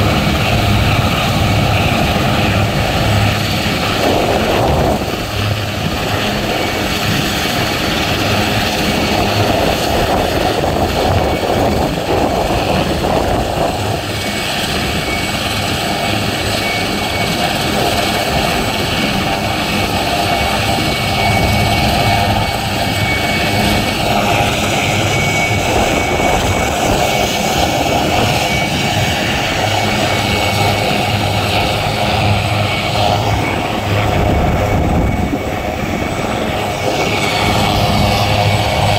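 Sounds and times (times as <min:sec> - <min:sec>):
helicopter turbine and rotor noise: 0:00.0 - 0:38.9.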